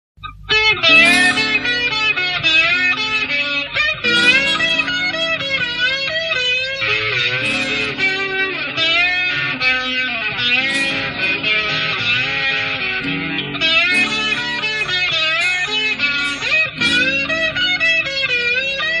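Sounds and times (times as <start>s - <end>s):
electric guitar with bent notes: 0.2s - 19.0s.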